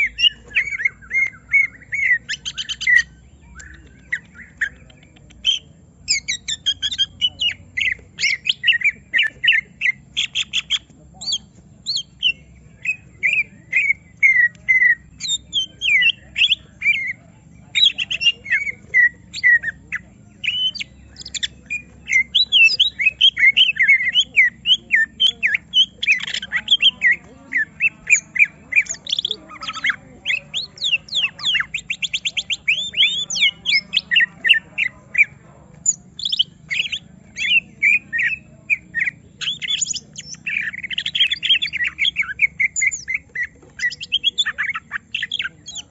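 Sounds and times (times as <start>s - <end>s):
bird harsh chattering: 0.0s - 45.9s
bird whistles and chirps: 0.0s - 45.9s.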